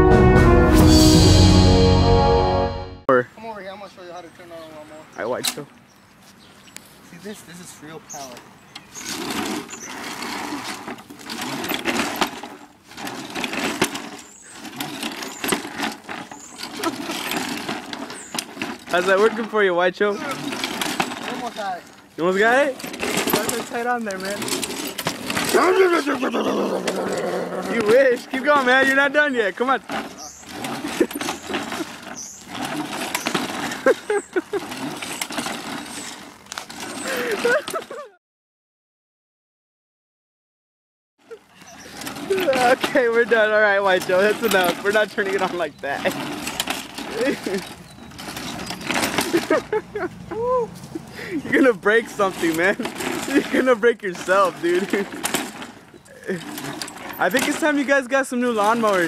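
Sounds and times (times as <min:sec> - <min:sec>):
lawn mower engine cranking: 0:07.8 - 0:38.1, 0:41.3 - 0:59.0.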